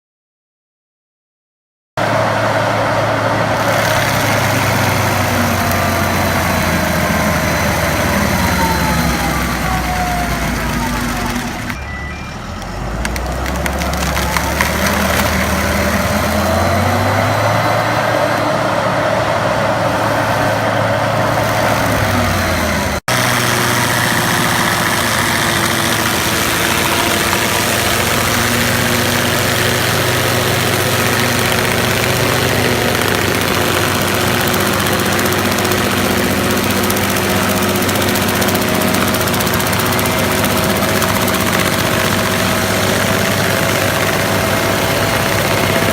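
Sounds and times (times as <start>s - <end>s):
stump grinder engine running: 2.0s - 45.9s.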